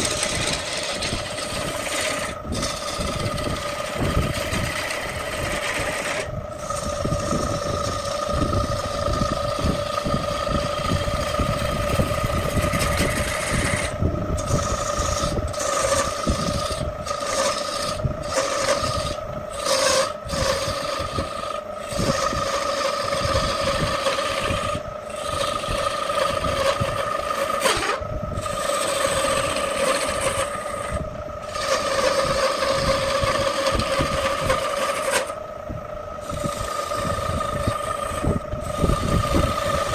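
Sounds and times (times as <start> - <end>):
turning tool cutting wood: 0.0 - 35.5, 36.1 - 39.9
wood lathe whine: 0.0 - 39.9.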